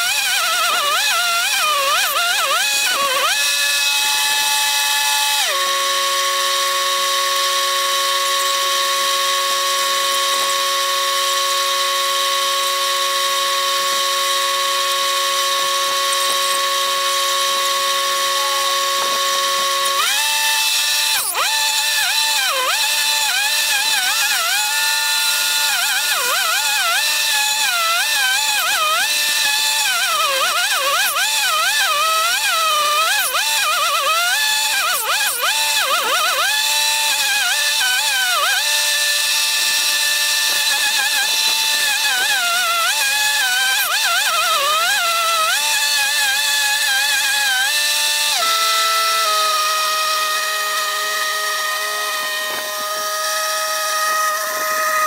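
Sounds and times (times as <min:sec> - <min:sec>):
chainsaw engine revving: 0:00.0 - 0:55.0.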